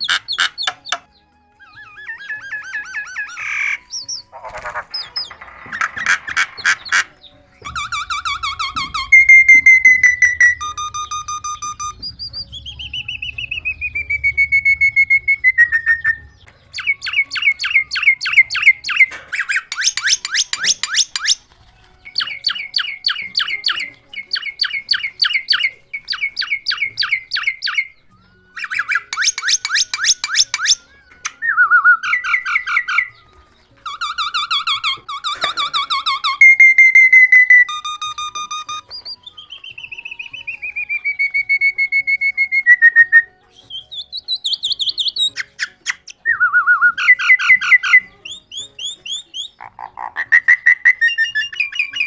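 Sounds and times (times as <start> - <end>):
bird rapid chirps: 0.0 - 52.0
bird whistling descending notes: 0.0 - 52.0.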